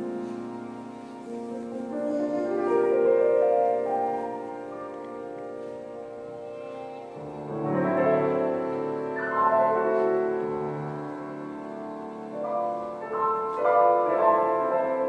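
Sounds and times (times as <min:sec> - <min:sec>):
piano chords: 0:00.0 - 0:15.0
viola sustaining long notes: 0:00.0 - 0:15.0.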